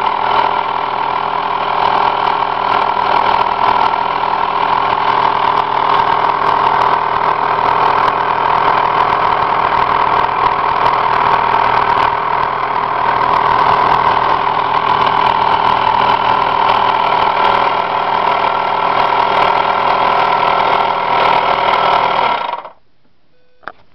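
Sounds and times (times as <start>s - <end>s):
small toy boat engine running: 0.0s - 22.8s.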